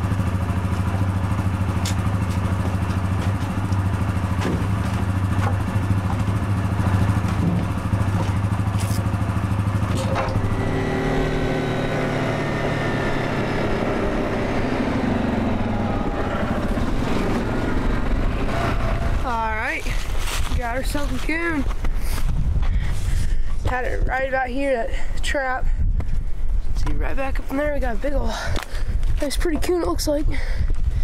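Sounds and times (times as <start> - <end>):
off-road vehicle engine: 0.0 - 31.0.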